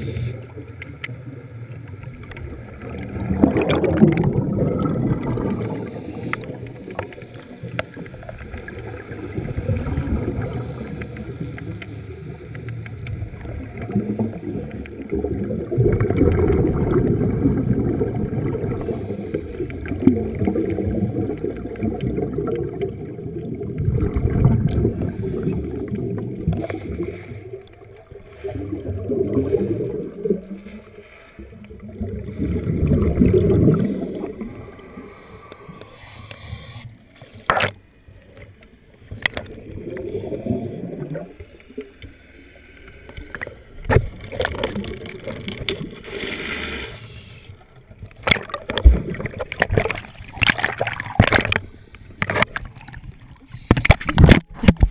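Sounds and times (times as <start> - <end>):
muffled water sloshing underwater: 0.0 - 54.9.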